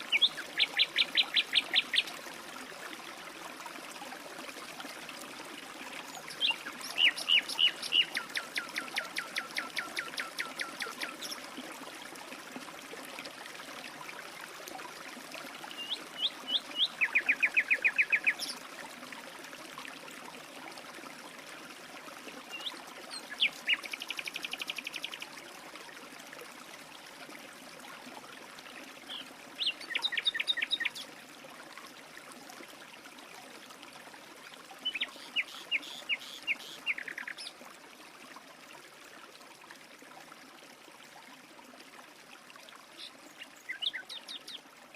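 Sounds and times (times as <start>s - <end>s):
stream water running: 0.0s - 44.9s.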